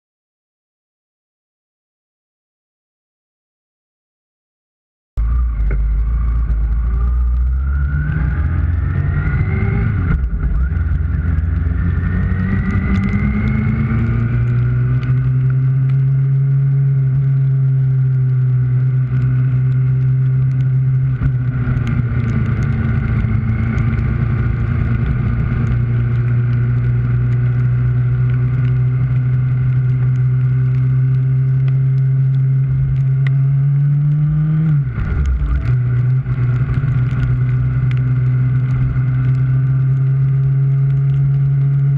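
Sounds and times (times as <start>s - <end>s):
motorcycle engine accelerating: 5.2s - 41.9s.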